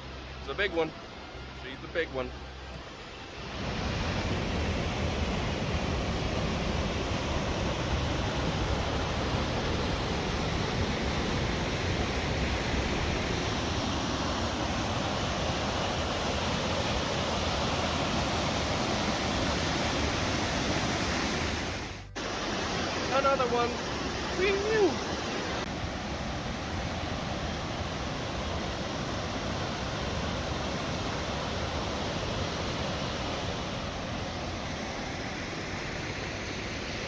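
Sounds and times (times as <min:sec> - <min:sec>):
waterfall rushing: 0:03.4 - 0:37.0.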